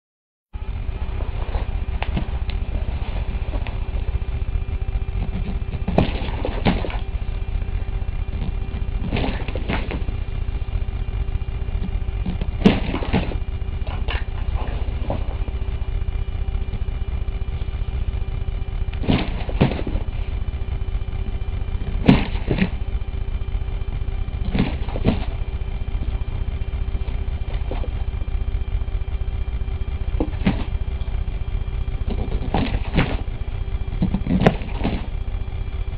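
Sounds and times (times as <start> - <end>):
faint hum: 0.5 - 35.9
low rumble: 0.6 - 35.9.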